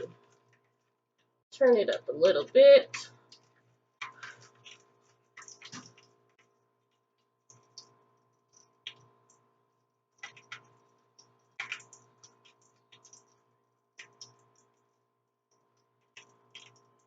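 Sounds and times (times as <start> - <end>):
chicken frying with crackling pops: 0.0 - 17.0.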